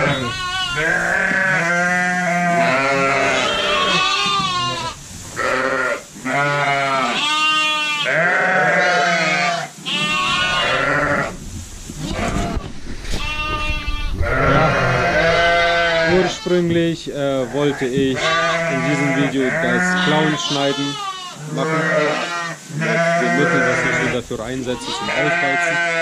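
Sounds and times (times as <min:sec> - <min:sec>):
sheep and lambs bleating: 0:00.0 - 0:11.4, 0:12.0 - 0:26.0.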